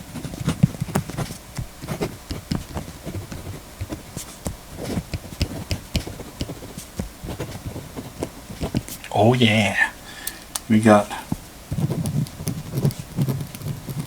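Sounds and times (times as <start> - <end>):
pencil scratching on paper: 0.1 - 9.0, 11.2 - 14.0.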